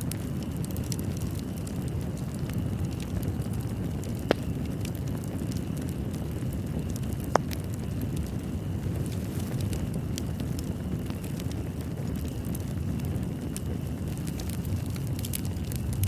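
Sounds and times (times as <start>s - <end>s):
fireplace crackling: 0.0s - 16.0s
low rumble of flames: 0.0s - 16.0s
sharp pops of fire: 0.0s - 16.0s.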